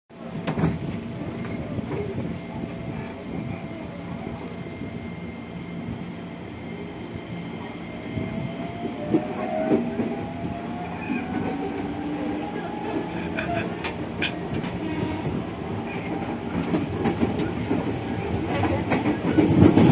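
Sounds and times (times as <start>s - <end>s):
train wheels rumbling: 0.2s - 19.9s.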